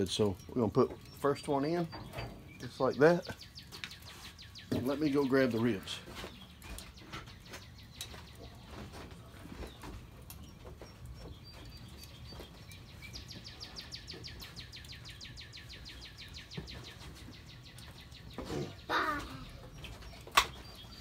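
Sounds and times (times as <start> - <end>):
faint outdoor background: 0.0 - 21.0.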